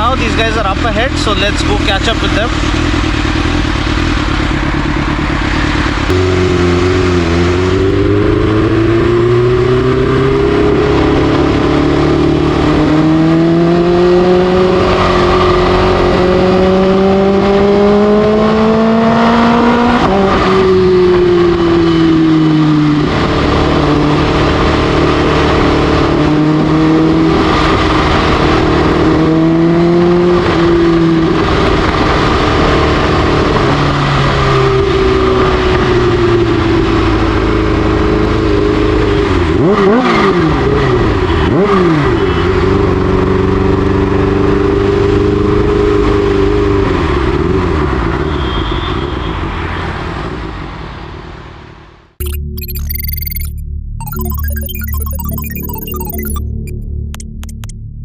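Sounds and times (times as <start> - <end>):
motorcycle engine revving: 0.0 - 48.2.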